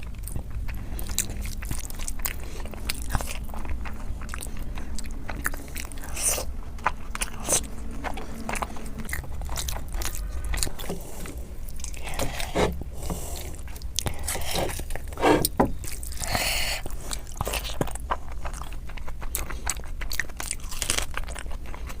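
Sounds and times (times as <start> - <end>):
close chewing and biting: 0.0 - 22.0.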